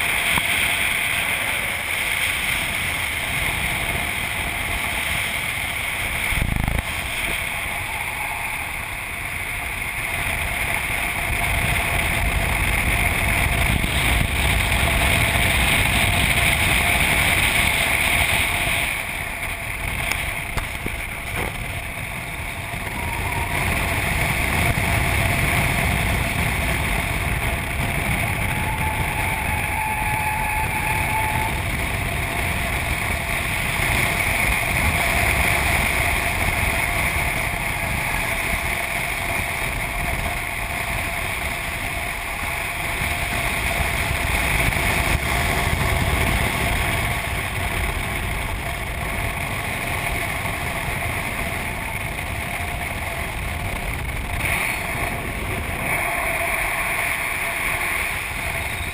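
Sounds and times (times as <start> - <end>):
car engine at road speed: 0.0 - 58.9
wind noise: 0.0 - 58.9.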